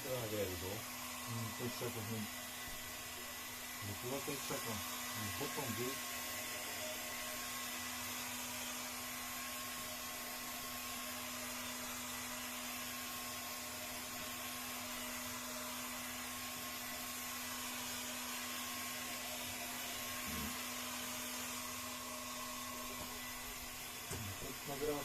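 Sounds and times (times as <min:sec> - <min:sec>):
heat gun blowing: 0:00.0 - 0:25.0.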